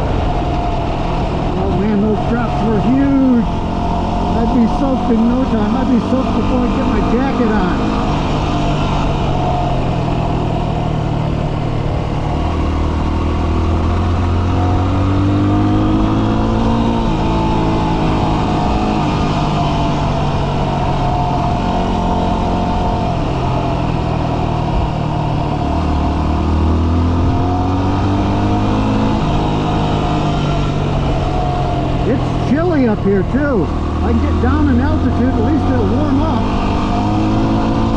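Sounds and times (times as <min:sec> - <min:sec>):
motorcycle engine running: 0:00.0 - 0:37.9
wind noise: 0:00.0 - 0:37.9.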